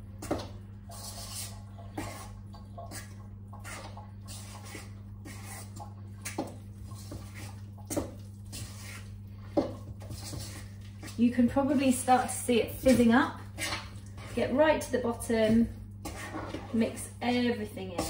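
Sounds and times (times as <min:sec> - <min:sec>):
steady low hum: 0:00.0 - 0:18.0
spoon squelching in wet batter: 0:00.1 - 0:18.0.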